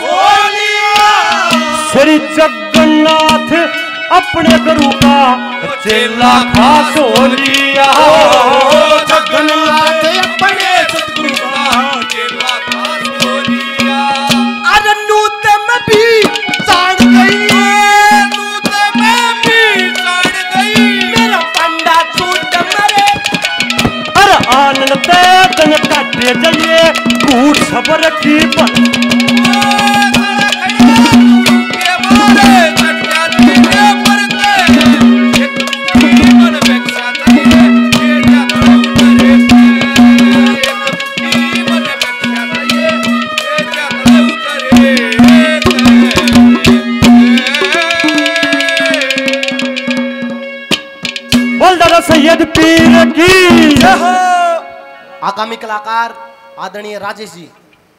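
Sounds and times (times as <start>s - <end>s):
hand drums fast rhythm: 0.0s - 54.4s.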